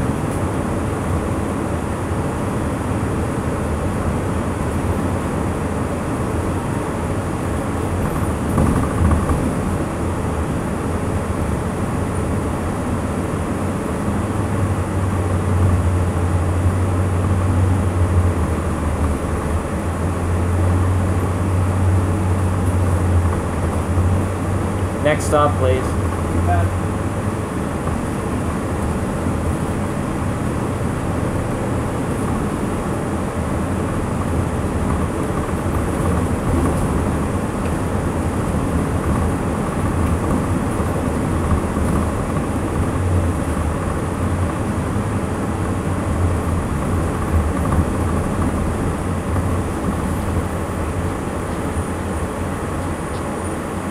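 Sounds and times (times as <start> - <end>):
diesel engine running: 0.0 - 53.9
road rumble: 0.0 - 53.9.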